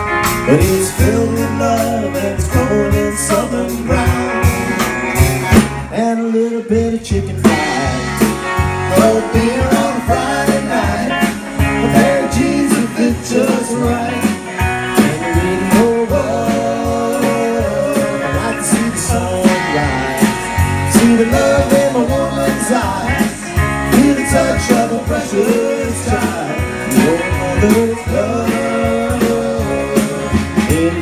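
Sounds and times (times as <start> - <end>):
steady drum beat: 0.0 - 5.9, 7.2 - 31.0
electric guitars: 0.0 - 31.0.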